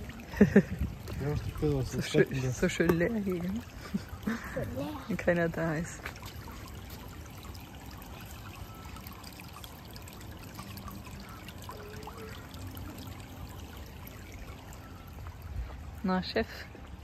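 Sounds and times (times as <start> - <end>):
water trickling and pouring: 0.0 - 17.0.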